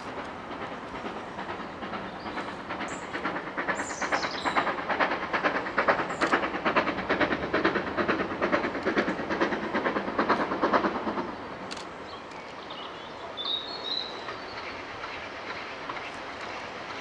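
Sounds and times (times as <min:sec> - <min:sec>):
steam locomotive exhaust beats: 0:00.0 - 0:17.0.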